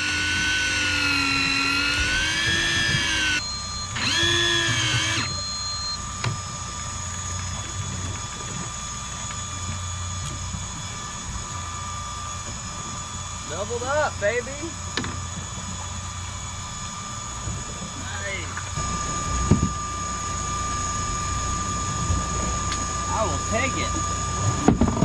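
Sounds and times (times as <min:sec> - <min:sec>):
fishing reel motor whining: 0:00.0 - 0:25.0.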